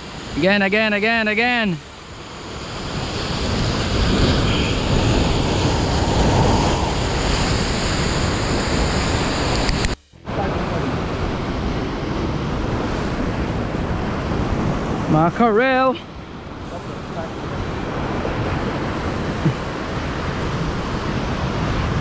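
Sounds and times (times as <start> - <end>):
wind buffeting microphone: 0.0 - 15.4, 16.0 - 22.0.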